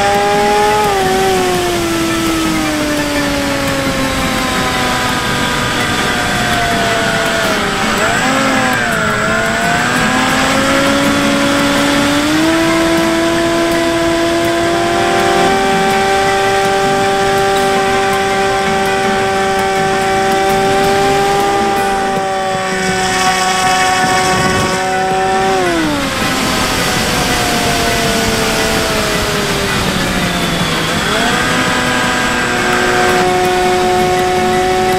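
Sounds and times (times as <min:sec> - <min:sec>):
electric motor propeller whine: 0:00.0 - 0:34.9.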